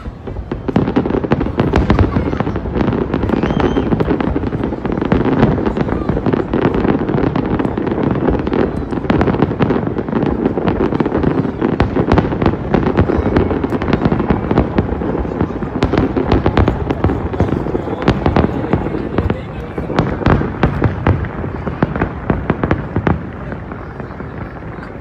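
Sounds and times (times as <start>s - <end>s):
continuous rumble: 0.0s - 25.0s
fireworks bangs and crackles: 0.0s - 25.0s.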